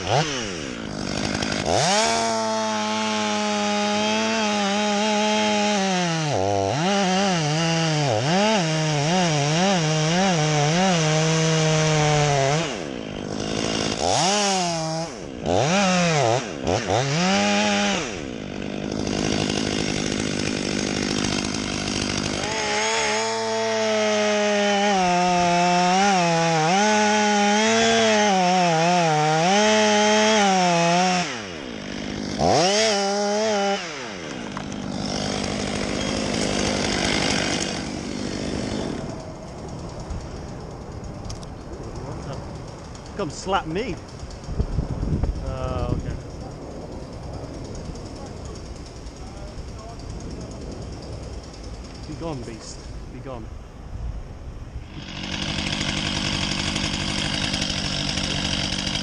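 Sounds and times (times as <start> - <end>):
chainsaw cutting wood: 0.0 - 53.4, 54.8 - 59.0
chainsaw revving: 0.0 - 53.4, 54.8 - 59.0.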